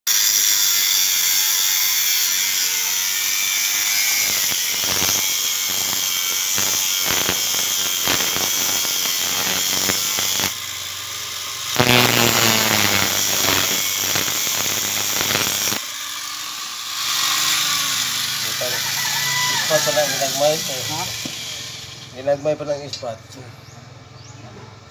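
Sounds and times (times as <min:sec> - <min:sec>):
angle grinder cutting steel: 0:00.1 - 0:22.9.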